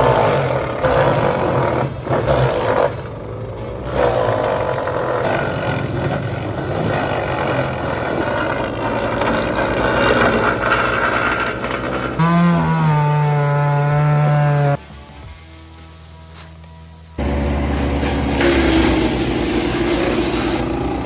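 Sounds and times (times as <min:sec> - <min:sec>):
wood chipper engine running: 0:00.0 - 0:14.8, 0:17.2 - 0:21.0.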